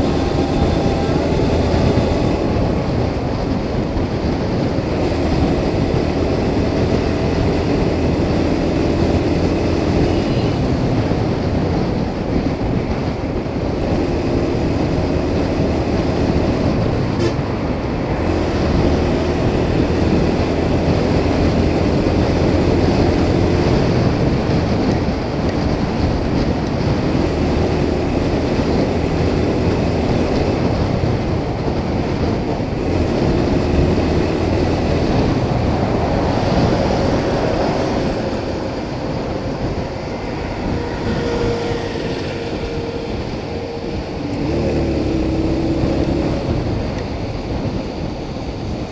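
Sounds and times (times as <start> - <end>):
motorcycle engine cruising: 0.0 - 48.9
wind and road noise: 0.0 - 48.9.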